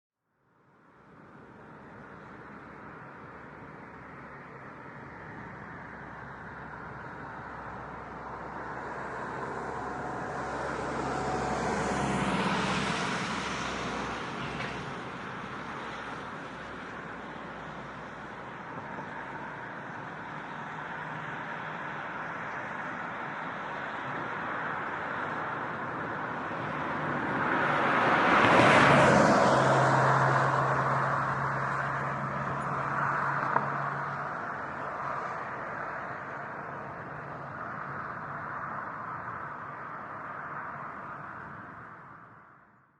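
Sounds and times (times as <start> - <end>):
cars passing by: 0.6 - 42.9.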